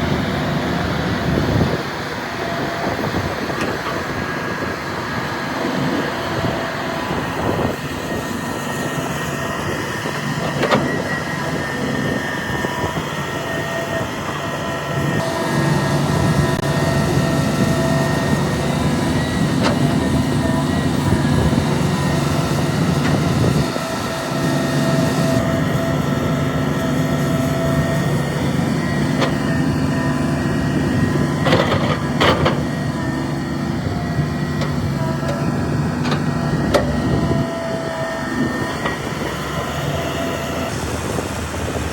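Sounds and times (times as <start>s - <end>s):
diesel engine of heavy machinery: 0.0s - 41.9s.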